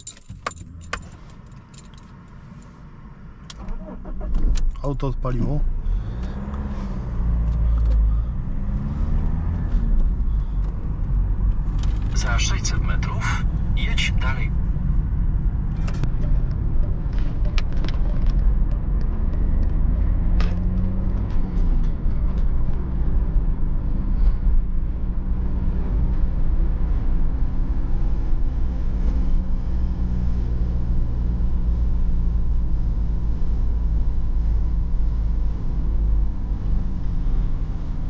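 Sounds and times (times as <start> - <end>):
car engine and road rumble: 0.0 - 38.0.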